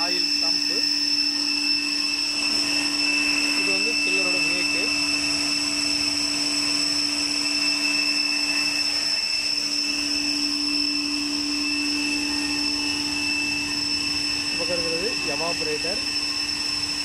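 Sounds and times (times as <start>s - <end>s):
high-pitched whining tones: 0.0s - 17.0s
machine hum: 0.0s - 17.0s.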